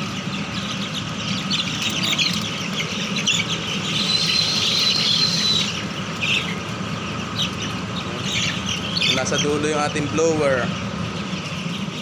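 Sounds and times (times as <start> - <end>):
chicks peeping: 0.0 - 12.0
low machine hum: 0.0 - 12.0.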